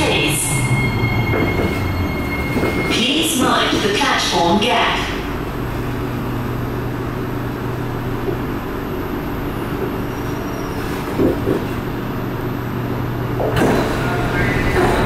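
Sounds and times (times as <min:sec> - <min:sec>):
low drone and hum in a train car: 0:00.0 - 0:15.0.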